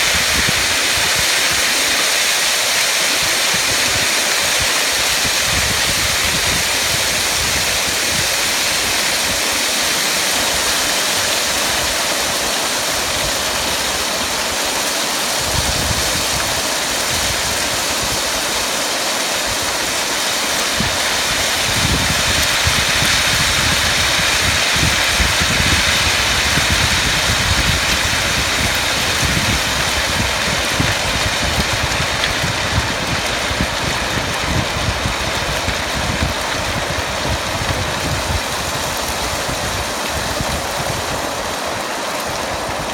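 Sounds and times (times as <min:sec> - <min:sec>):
floodwater rushing roar: 0:00.0 - 0:42.9.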